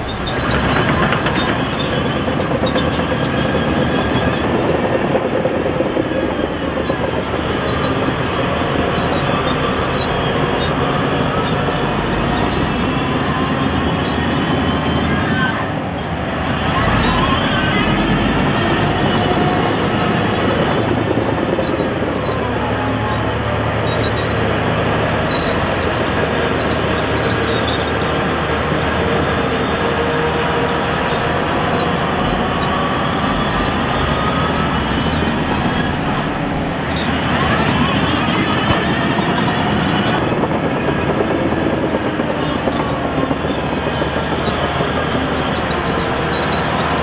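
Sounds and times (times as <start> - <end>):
gliding squeals: 0.0 - 47.0
heavy diesel machinery running: 0.0 - 47.0.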